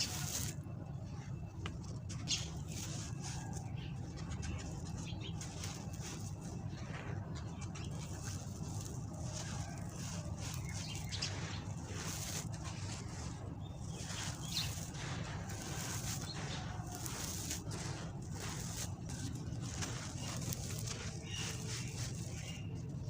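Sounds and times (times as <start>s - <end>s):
gritty crunching and crackling: 0.0s - 23.0s
steady low hum: 0.0s - 23.0s.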